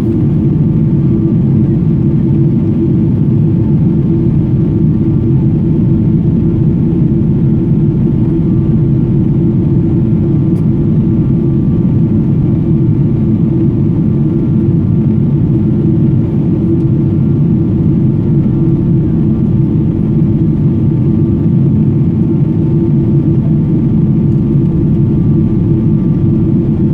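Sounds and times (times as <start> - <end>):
aircraft cabin engine drone: 0.0 - 26.9
faint steady whine: 0.0 - 26.9.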